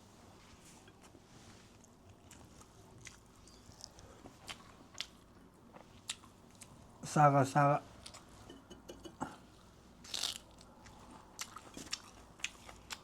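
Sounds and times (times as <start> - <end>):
faint chewing of food: 0.4 - 6.8, 8.0 - 13.0.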